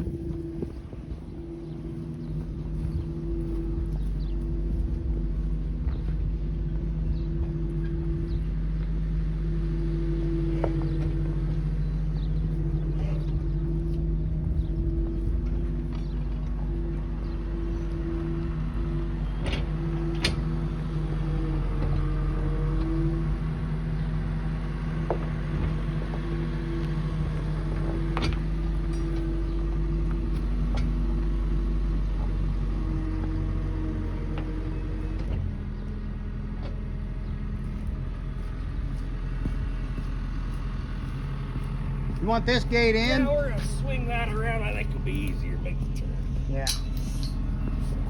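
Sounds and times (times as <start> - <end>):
truck engine rumbling: 0.0 - 48.0.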